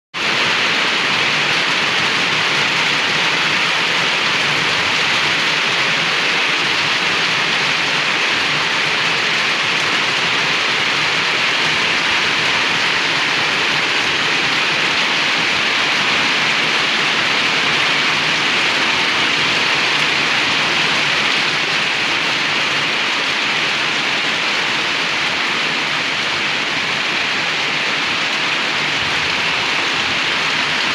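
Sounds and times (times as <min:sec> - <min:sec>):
heavy rain pouring: 0:00.2 - 0:30.9.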